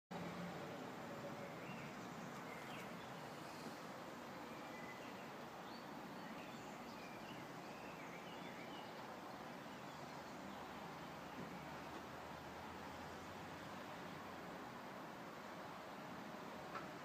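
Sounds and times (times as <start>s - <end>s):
steady background hiss: 0.2s - 17.0s.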